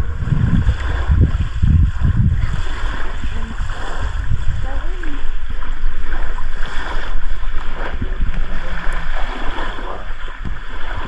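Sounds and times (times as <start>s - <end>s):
rushing splashing water: 0.0s - 11.0s
wind rumbling on microphone: 0.0s - 11.0s.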